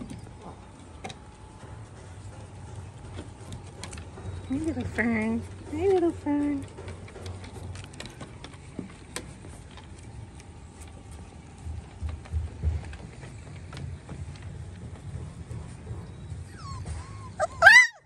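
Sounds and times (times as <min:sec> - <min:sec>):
puppy paws tapping wooden boards: 0:00.0 - 0:18.0.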